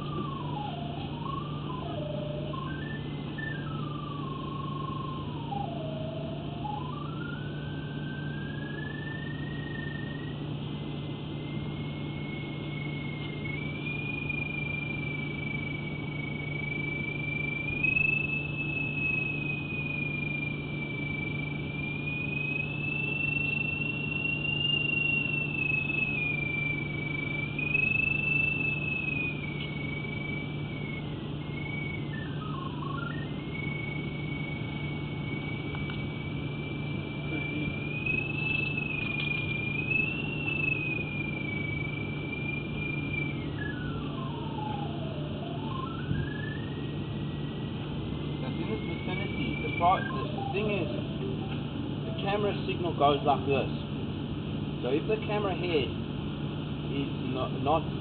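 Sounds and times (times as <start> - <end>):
electronic tone gliding in pitch: 0.0 - 54.0
steady low hum: 0.0 - 58.0.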